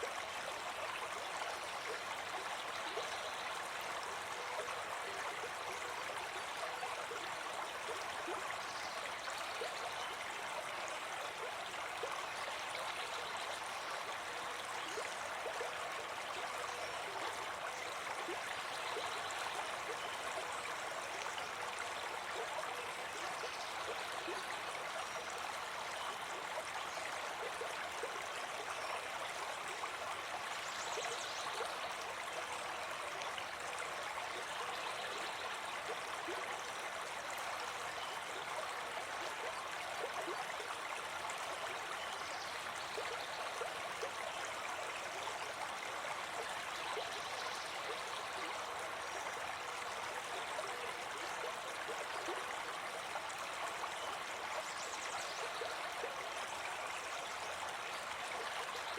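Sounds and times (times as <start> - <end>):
brook babbling: 0.0 - 58.9.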